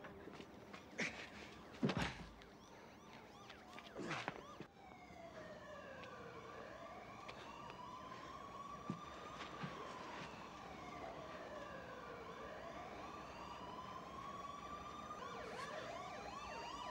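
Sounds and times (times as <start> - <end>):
siren wailing: 0.4 - 16.9.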